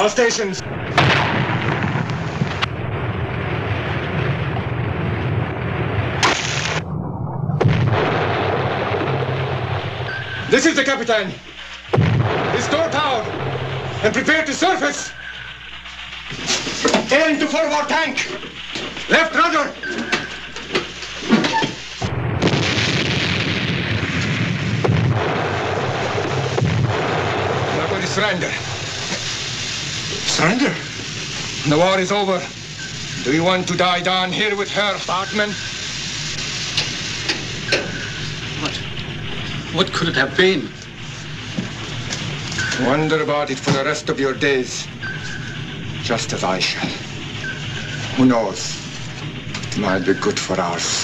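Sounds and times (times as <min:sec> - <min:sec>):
depth charges exploding rumble: 0:00.0 - 0:51.0.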